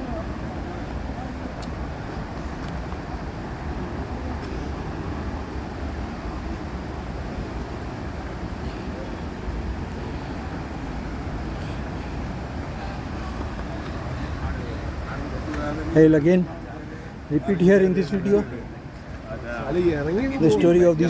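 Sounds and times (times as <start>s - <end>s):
distant waterfall roar: 0.0s - 21.0s.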